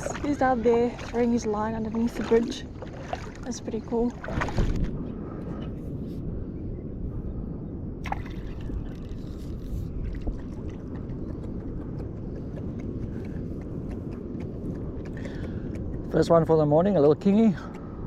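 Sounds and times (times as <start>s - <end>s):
wind at the shore: 0.0s - 18.0s.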